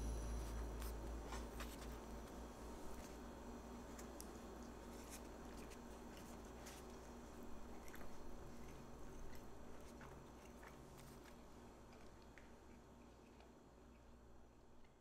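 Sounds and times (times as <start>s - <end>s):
low room hum: 0.0s - 15.0s
biting and chewing food: 0.8s - 15.0s.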